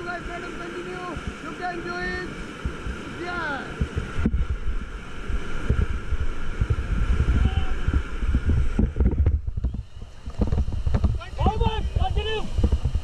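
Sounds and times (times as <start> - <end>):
whitewater rapids rushing: 0.0 - 13.0
wind buffeting microphone: 0.0 - 13.0.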